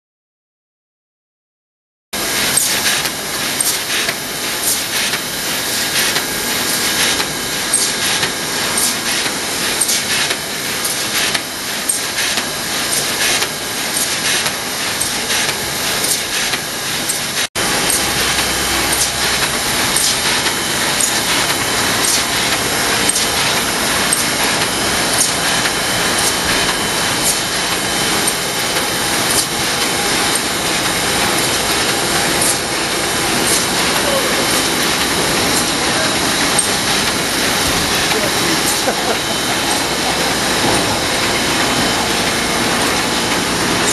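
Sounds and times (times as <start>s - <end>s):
printing press clattering: 2.2s - 43.9s
rapid clicking of press feed: 2.4s - 41.7s.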